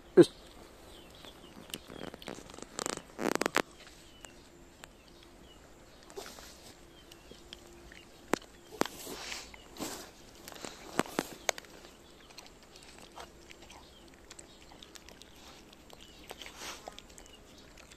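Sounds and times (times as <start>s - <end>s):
dog crunching bones: 1.1s - 6.2s, 7.0s - 17.9s.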